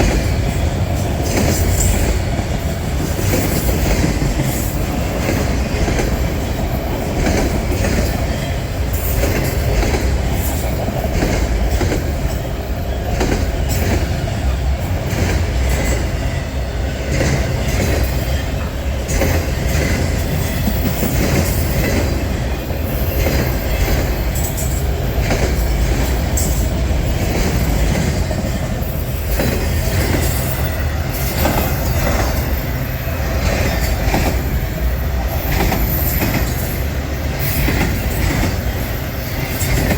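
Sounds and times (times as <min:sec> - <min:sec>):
freight train cars rumbling: 0:00.0 - 0:39.9.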